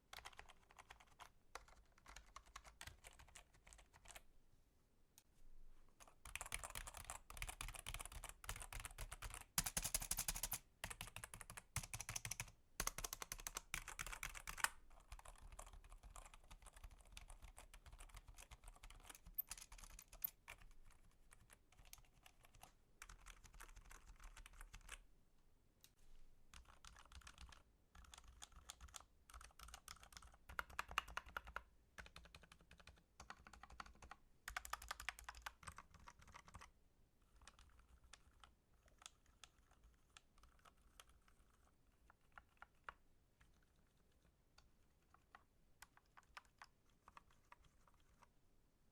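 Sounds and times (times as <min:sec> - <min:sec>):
typing on computer keyboard: 0:00.0 - 0:04.2, 0:06.0 - 0:25.0, 0:26.5 - 0:48.3.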